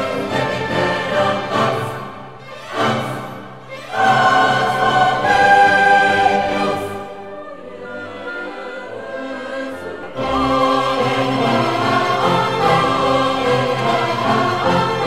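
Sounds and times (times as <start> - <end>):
choir voices: 0.0 - 15.0
dramatic orchestral music: 0.0 - 15.0.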